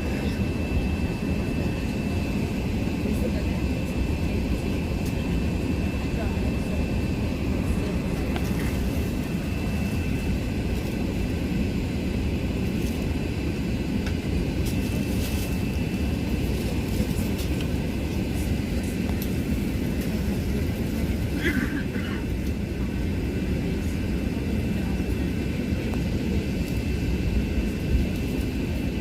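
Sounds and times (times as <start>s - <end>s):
aircraft cabin engine rush: 0.0s - 29.0s.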